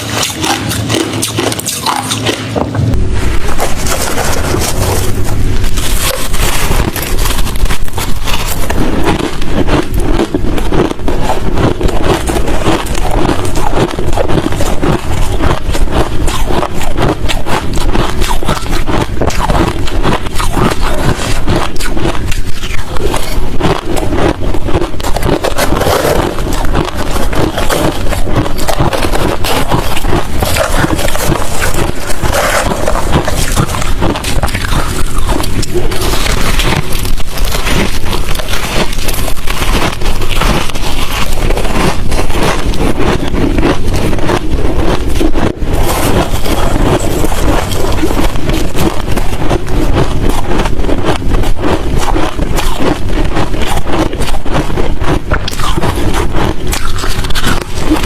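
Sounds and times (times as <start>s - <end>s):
chewing crushed ice: 0.0s - 58.0s.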